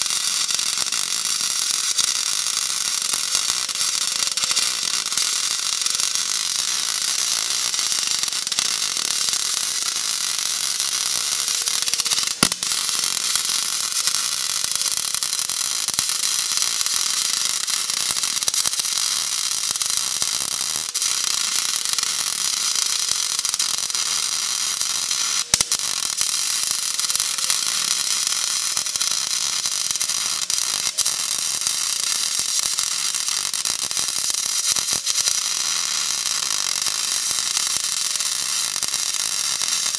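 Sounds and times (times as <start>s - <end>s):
welding arc sizzling crackle: 0.0s - 39.9s.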